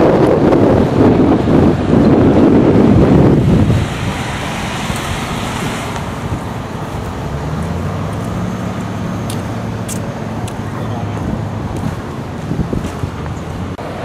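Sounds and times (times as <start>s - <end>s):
low engine hum: 0.0s - 14.0s
motor vehicle noise: 0.0s - 14.0s
wind buffeting microphone: 0.0s - 14.0s.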